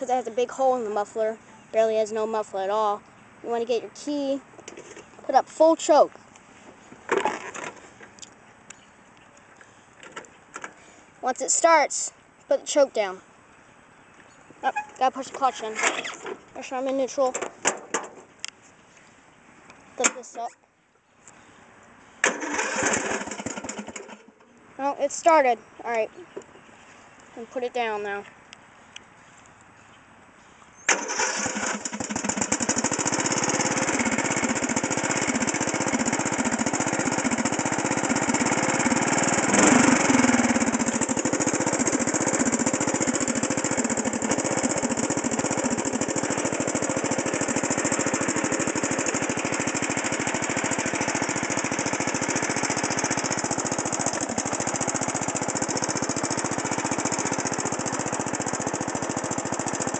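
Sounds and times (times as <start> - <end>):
riding lawn mower engine running: 0.0 - 13.4, 14.5 - 18.7, 22.2 - 28.2, 30.8 - 59.9.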